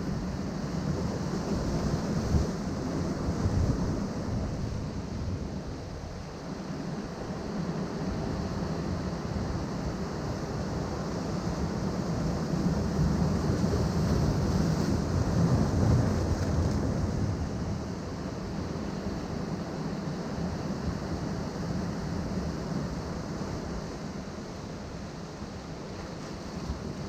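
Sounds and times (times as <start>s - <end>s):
surf washing among rocks: 0.1s - 27.0s.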